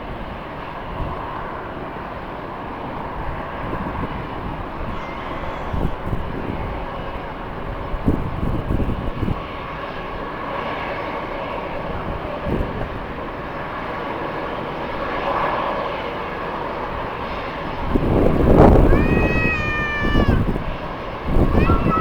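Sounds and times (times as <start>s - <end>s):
jet engines roaring: 0.1s - 22.0s
wind buffeting microphone: 0.2s - 22.0s.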